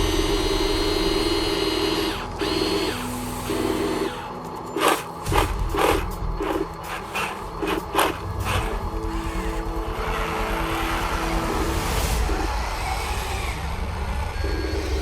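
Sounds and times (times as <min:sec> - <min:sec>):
scraping bursts: 0:00.0 - 0:13.8
electric motors whining: 0:00.0 - 0:15.0.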